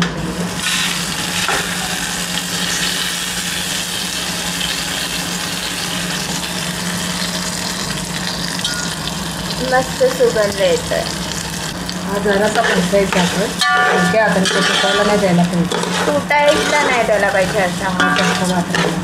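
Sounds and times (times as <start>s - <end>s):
rice sizzling in hot ghee: 0.4s - 19.0s.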